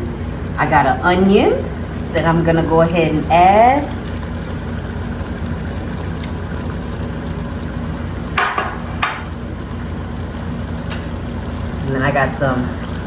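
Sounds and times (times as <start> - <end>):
low hum: 0.0 - 13.0
meat sizzling in a pot: 1.3 - 13.0.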